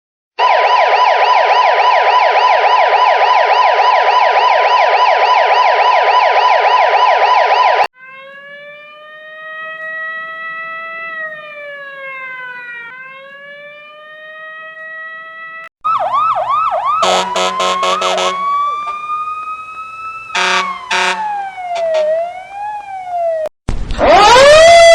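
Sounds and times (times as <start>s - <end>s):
electronic yelp siren: 0.4s - 24.9s
wailing siren: 0.4s - 24.9s.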